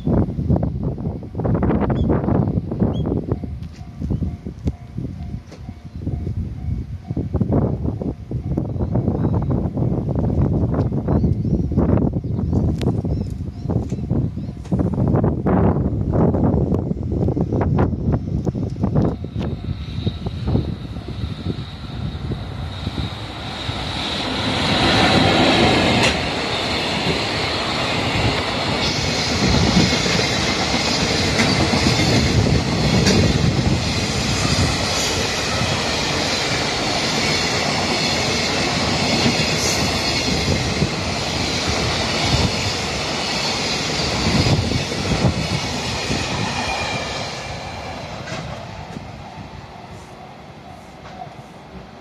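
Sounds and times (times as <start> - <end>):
freight train wheel and rail noise: 0.0 - 52.0.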